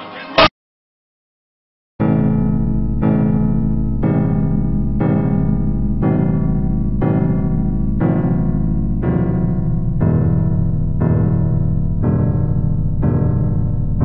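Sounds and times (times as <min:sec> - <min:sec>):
slow electric piano chords: 0:02.0 - 0:14.0.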